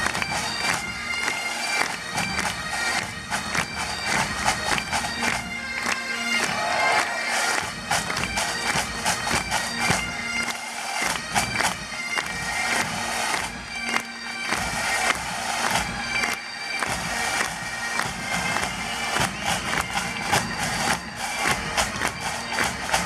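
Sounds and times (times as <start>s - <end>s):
bagpipes playing: 0.0s - 23.0s.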